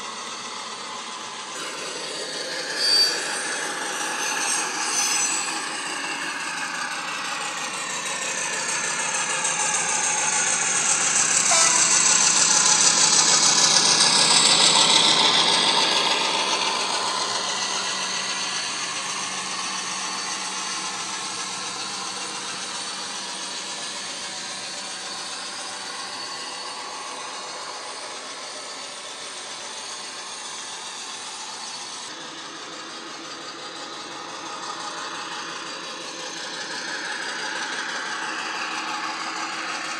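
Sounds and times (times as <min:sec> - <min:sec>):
model train diesel engine sound: 0:00.0 - 0:39.9.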